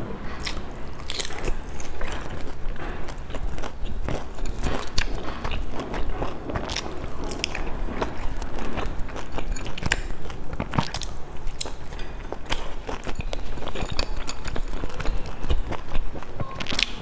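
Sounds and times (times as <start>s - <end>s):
chewing with wet mouth sounds: 0.2s - 17.0s.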